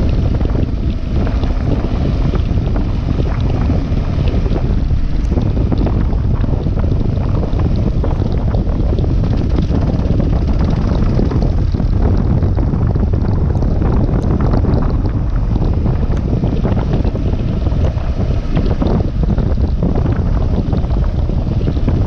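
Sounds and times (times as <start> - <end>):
motorcycle running: 0.0 - 22.0
wind rumble on microphone: 0.0 - 22.0.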